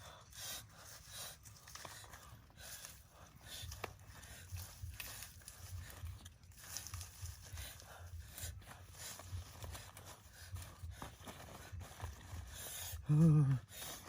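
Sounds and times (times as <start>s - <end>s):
rustling handling noise: 0.8s - 12.8s.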